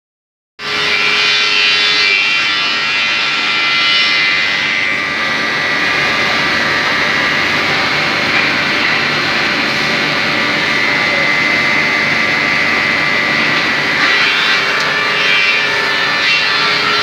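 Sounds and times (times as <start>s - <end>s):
wood sanding machine running: 0.6s - 17.0s.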